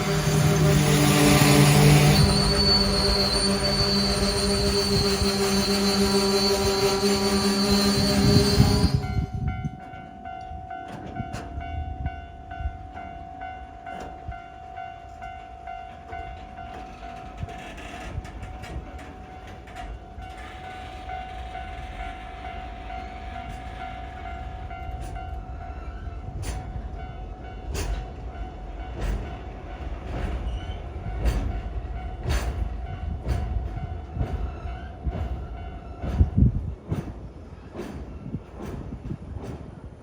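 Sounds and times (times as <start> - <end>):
train wheels clacking over rail joints: 0.0 - 9.0, 15.0 - 40.0.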